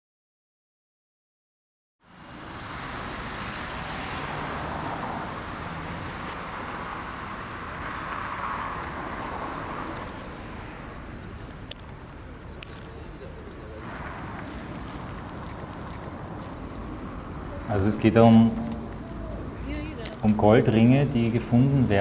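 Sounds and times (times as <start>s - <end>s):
traffic noise: 2.0s - 22.0s.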